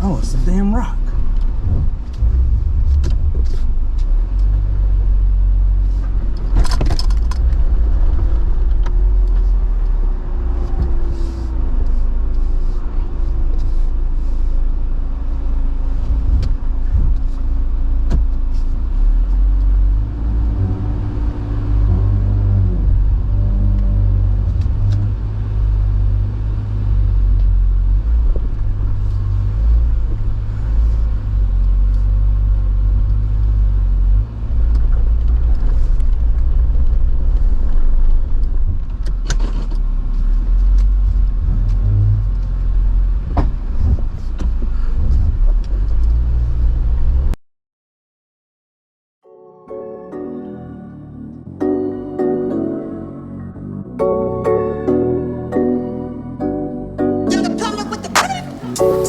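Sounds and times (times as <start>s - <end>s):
engine rumbling at low revs: 0.0s - 47.4s.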